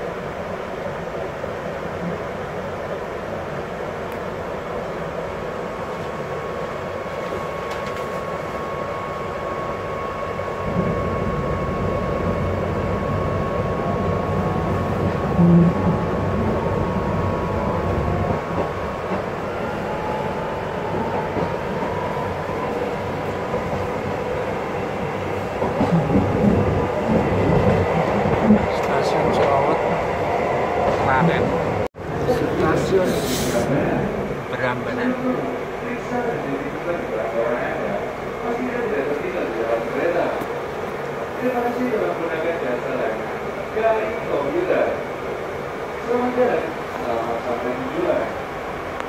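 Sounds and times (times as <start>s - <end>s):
train wheels rumbling on rail: 7.0s - 49.0s.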